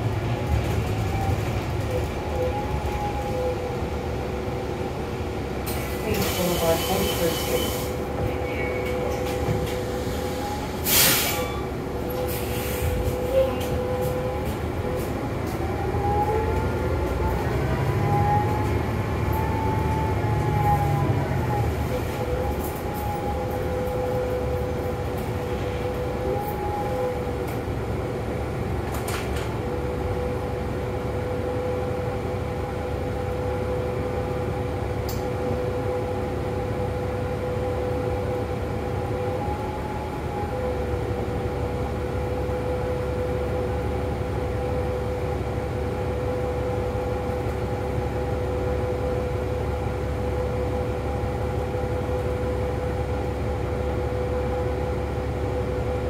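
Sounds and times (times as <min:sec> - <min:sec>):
bus drivetrain whine: 0:00.0 - 0:56.0
road and engine rumble: 0:00.0 - 0:56.0.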